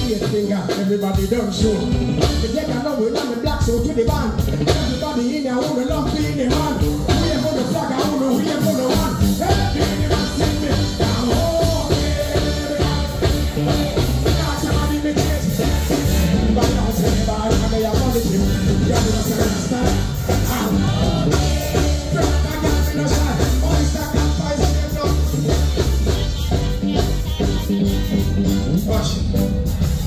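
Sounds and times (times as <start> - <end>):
heavy bass: 0.0 - 30.0
live band playing dancehall: 0.0 - 30.0
person singing: 0.0 - 30.0
steady drum beat: 0.0 - 30.0.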